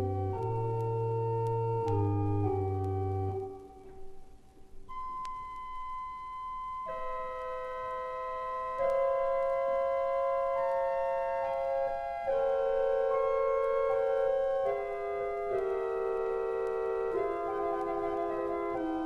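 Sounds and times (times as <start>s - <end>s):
pipe organ playing held chords: 0.0s - 4.0s, 6.8s - 19.0s.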